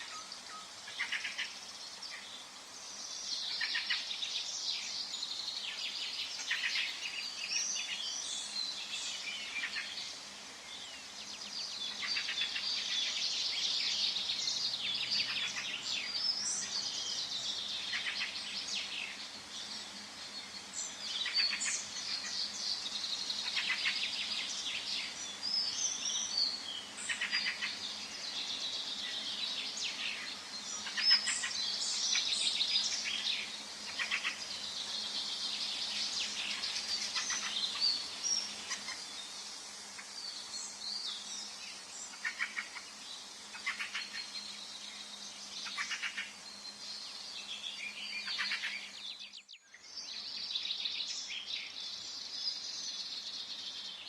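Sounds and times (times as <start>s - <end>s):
birds singing and chirping: 0.0s - 54.0s
faint steady hiss: 0.0s - 54.0s.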